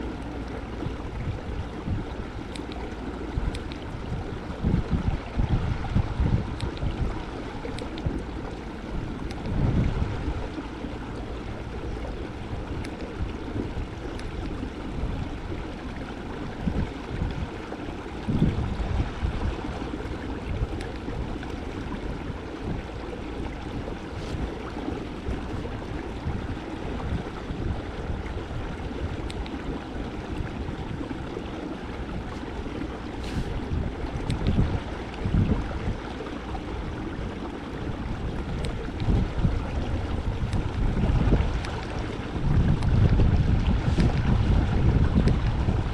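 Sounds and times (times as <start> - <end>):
water lapping against kayak hull: 0.0 - 45.9
wind buffeting microphone: 0.0 - 45.9.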